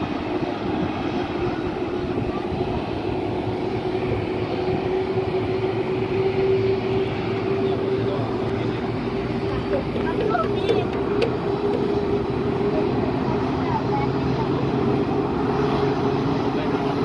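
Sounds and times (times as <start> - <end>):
jet engine noise: 0.0 - 17.0
steady jet whine: 0.0 - 17.0.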